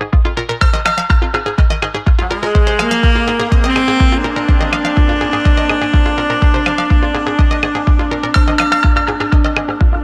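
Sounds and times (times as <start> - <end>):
kick drum beat: 0.0 - 10.0
synth melody: 0.0 - 10.0.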